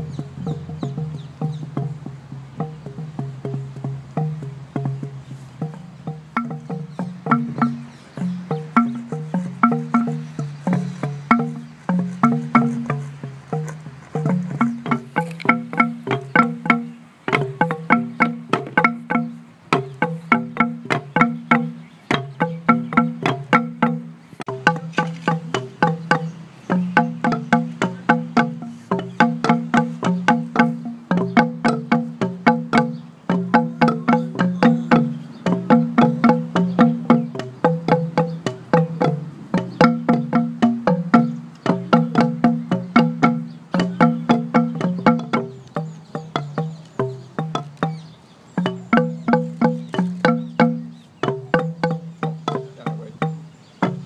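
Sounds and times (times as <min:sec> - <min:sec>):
bamboo tubes stamping hollow knocks: 0:00.0 - 0:54.0.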